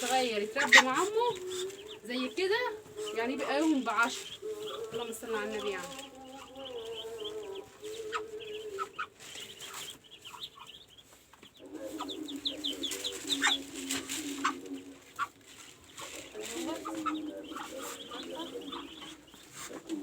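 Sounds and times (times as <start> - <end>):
mother duck calling: 0.0 - 15.4, 16.0 - 20.0
ducklings peeping: 0.0 - 20.0.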